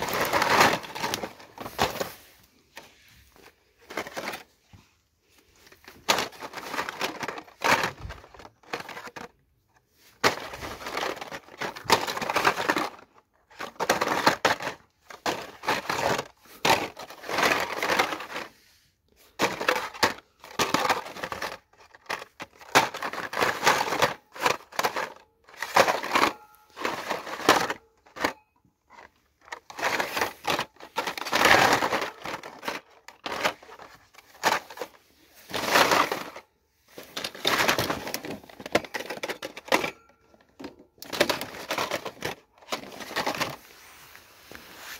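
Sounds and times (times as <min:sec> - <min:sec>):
plastic packs rustling and clattering: 0:00.0 - 0:44.9.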